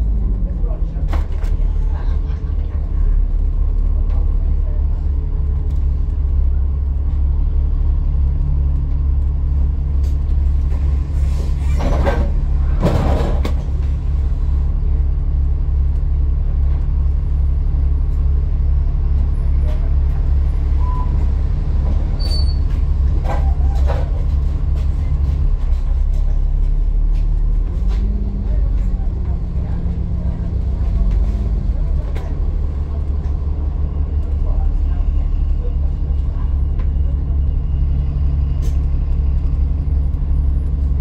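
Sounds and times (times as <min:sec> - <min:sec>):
bus engine idling: 0:00.0 - 0:41.0.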